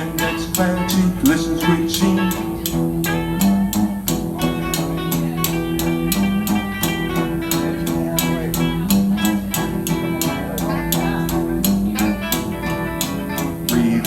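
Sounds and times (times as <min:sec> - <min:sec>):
bass: 0:00.0 - 0:14.0
drum beat: 0:00.0 - 0:14.0
guitar: 0:00.0 - 0:14.0.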